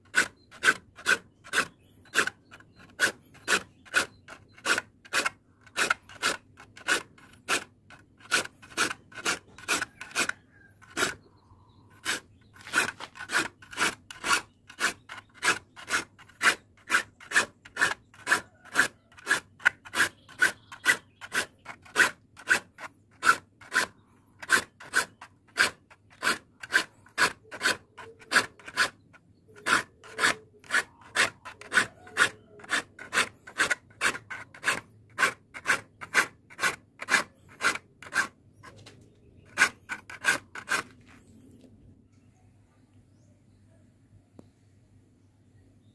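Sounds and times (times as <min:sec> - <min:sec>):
file rasping on saw teeth: 0:00.0 - 0:40.9.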